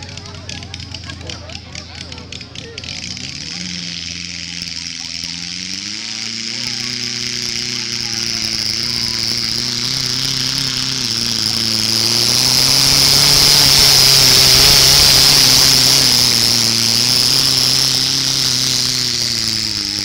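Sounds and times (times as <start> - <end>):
tractor engine running flat out: 0.0 - 20.0
high whine: 3.6 - 20.0.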